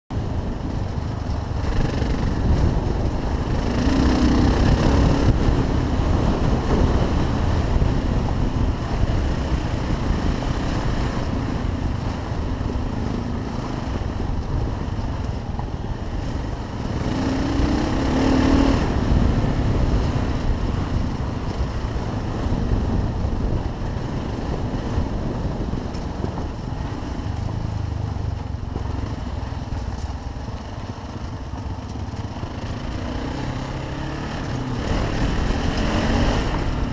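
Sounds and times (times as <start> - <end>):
motorcycle engine running: 0.1 - 36.9
wind noise on microphone: 0.1 - 36.9.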